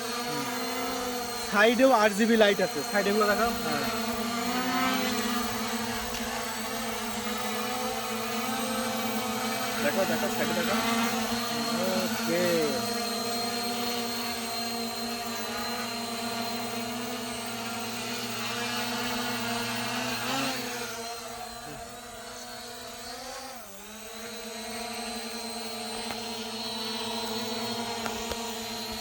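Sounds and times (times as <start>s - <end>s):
drone propellers whirring: 0.0s - 29.0s.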